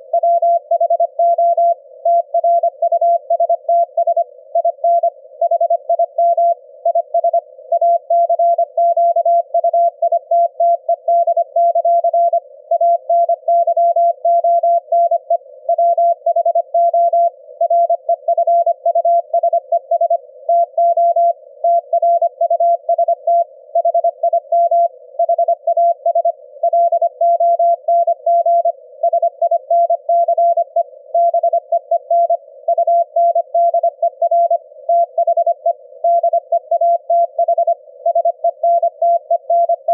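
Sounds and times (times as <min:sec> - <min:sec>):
morse code beeps: 0:00.2 - 0:39.9.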